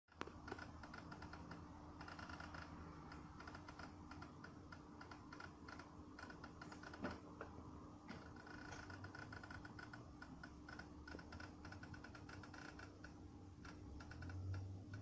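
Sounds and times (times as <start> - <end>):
air conditioner clicking: 0.1 - 15.0
air conditioner low hum: 0.1 - 15.0.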